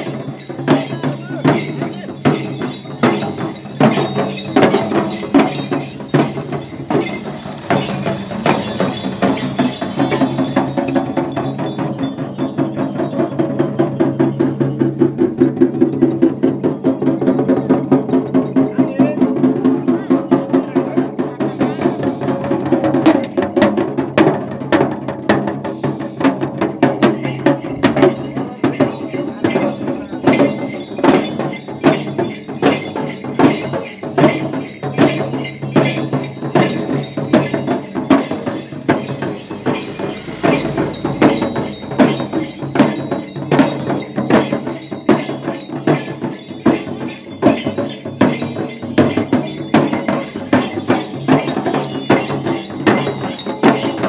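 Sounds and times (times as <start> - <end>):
bells jingling: 0.0 - 23.7, 25.3 - 54.0
frame drums beaten: 0.0 - 54.0.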